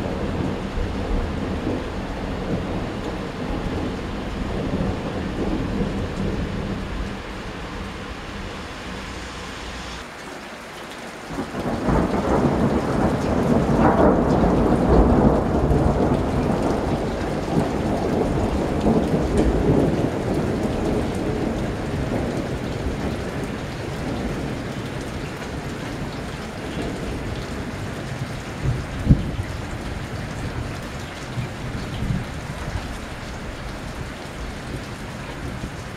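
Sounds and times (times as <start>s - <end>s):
thunder rumbling: 0.0s - 10.0s, 11.4s - 35.9s
steady rain: 0.0s - 35.9s.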